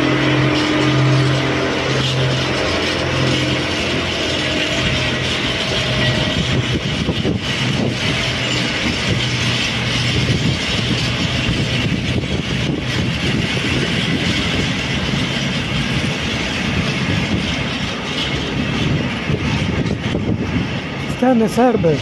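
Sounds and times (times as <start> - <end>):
freight train wheels clattering: 0.0 - 22.0.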